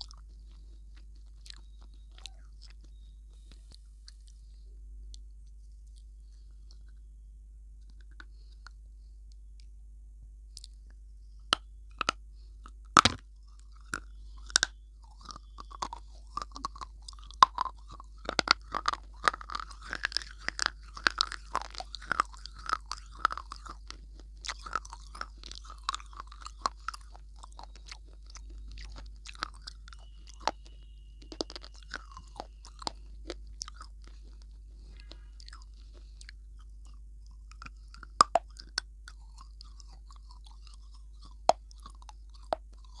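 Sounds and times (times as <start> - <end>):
person chewing crisp food: 0.0 - 7.1, 7.8 - 9.1, 10.5 - 43.0.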